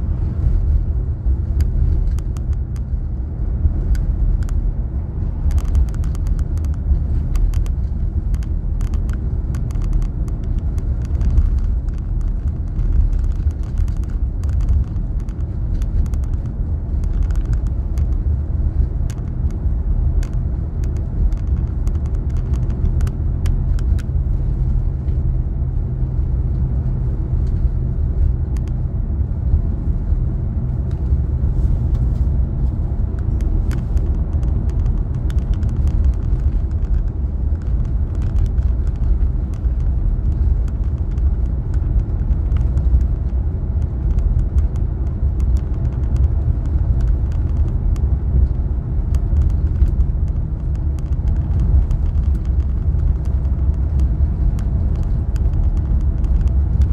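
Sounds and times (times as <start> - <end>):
car road and engine rumble: 0.0 - 56.9.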